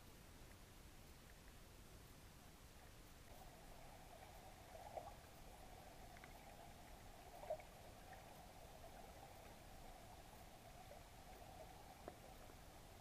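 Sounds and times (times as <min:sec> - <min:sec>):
faint underwater hum: 0:00.0 - 0:13.0.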